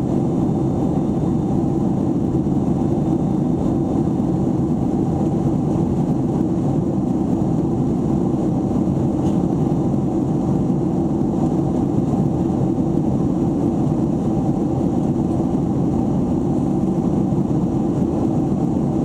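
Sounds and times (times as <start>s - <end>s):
jet cabin engine rush: 0.0s - 19.0s.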